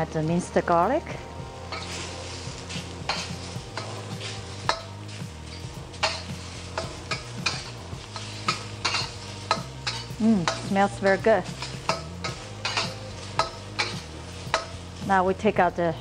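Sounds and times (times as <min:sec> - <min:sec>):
food sizzling in a wok: 0:00.0 - 0:16.0
metal spatula scraping a wok: 0:01.6 - 0:15.2.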